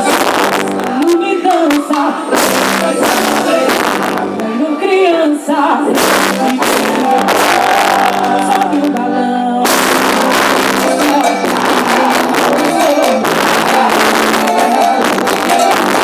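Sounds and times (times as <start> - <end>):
percussion hits: 0.0 - 4.6, 5.9 - 9.0, 9.6 - 16.0
person singing: 0.0 - 16.0.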